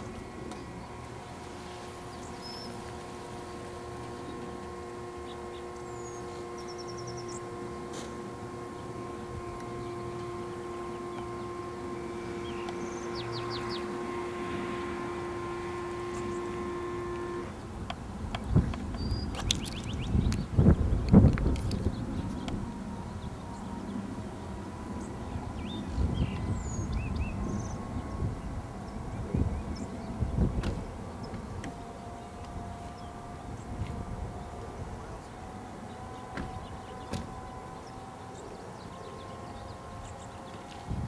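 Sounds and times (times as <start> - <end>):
birds chirping: 0.0 - 41.0
electric motor whining: 0.0 - 41.0.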